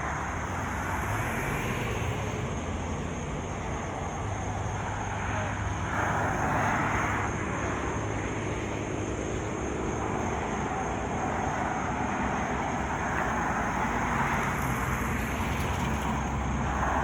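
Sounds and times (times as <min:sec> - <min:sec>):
vehicles passing on highway: 0:00.0 - 0:17.0.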